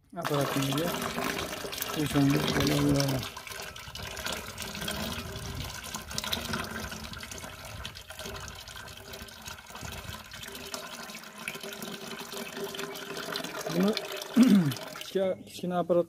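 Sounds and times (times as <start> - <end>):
liquid pouring into water: 0.1 - 15.2
water splashing and bubbling: 0.1 - 15.2.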